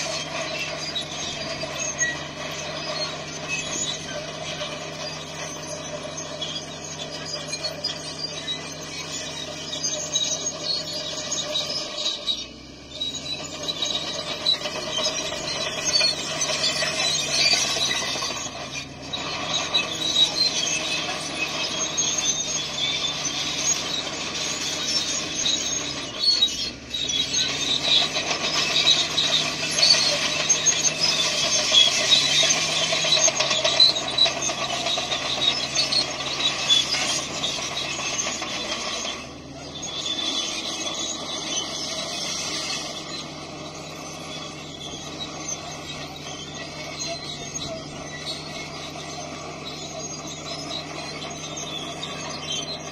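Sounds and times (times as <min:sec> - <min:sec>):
bulldozer diesel engine: 0:00.0 - 0:52.9
steel tracks squealing and rattling: 0:00.0 - 0:52.9.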